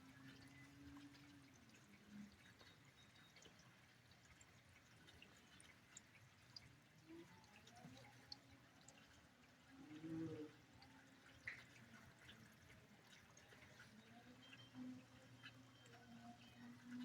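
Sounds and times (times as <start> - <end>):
rainwater dripping: 0.0 - 17.0.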